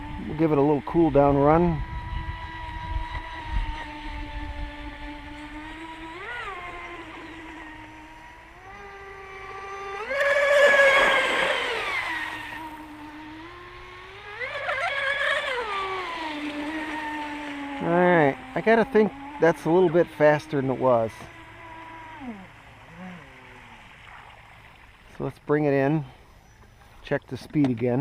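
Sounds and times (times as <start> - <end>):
electric motor whining: 0.0 - 24.4.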